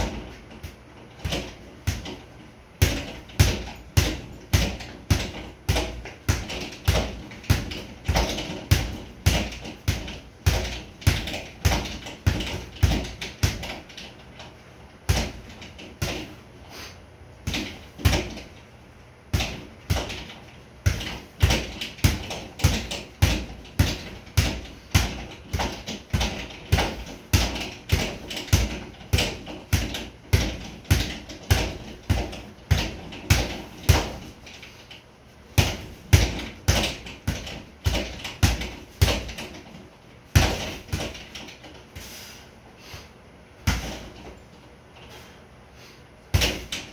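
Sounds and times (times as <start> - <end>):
boxing gloves punching bag: 0.0 - 16.5, 17.4 - 18.7, 19.3 - 42.4, 43.6 - 45.3, 46.3 - 46.9.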